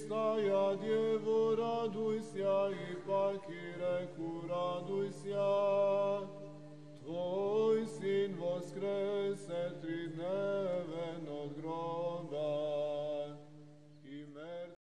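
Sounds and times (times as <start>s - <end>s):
man singing chant: 0.0s - 14.8s.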